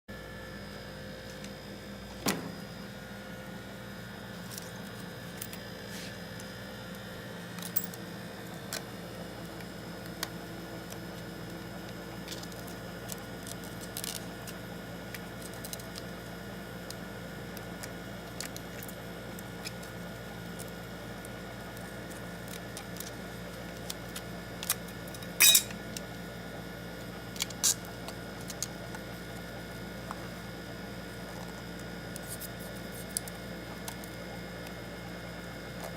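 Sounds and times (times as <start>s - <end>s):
steady electrical hum: 0.1s - 35.9s.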